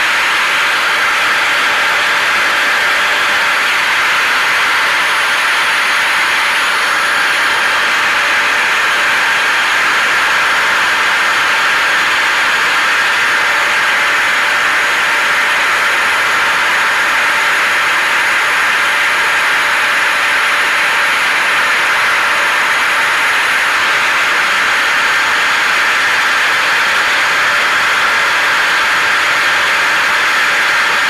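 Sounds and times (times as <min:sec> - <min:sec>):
hair dryer and vacuum rushing: 0:00.0 - 0:31.0.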